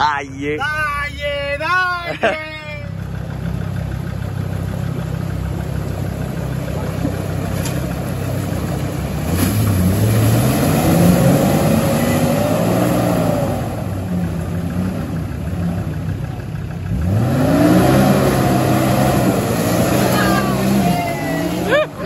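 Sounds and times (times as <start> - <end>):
car engine revving: 3.0 - 22.0.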